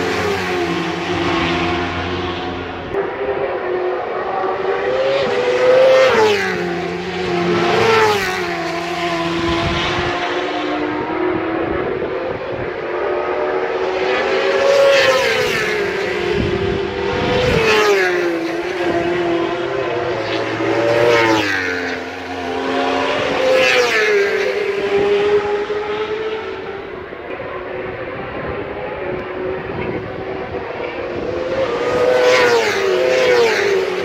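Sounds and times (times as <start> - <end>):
racing motorcycle engines: 0.0 - 34.0.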